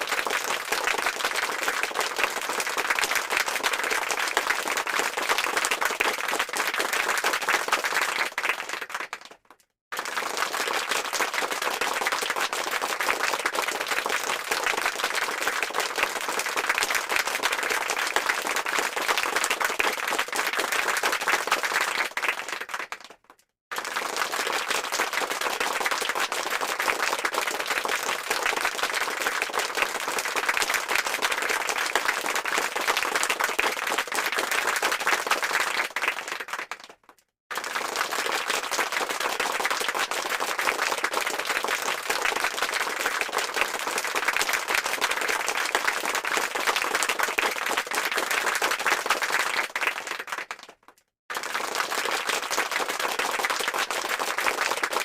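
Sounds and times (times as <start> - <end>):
crowd clapping: 0.0 - 55.0.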